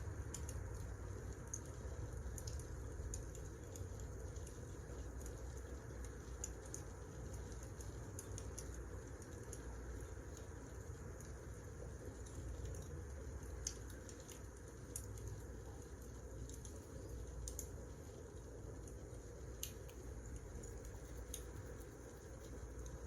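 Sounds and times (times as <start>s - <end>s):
low steady rumble: 0.0s - 23.0s
wood fire crackling: 0.0s - 23.0s.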